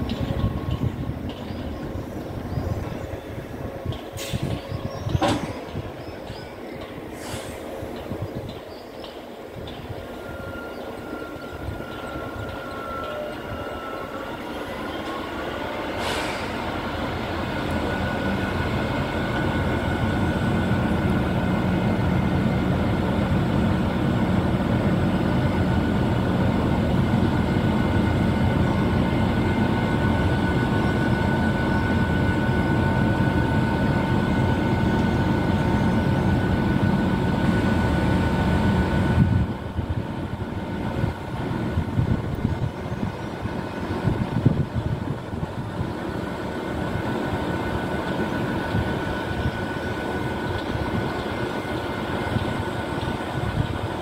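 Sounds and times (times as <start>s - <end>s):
electric train hum and whine: 0.0s - 54.0s.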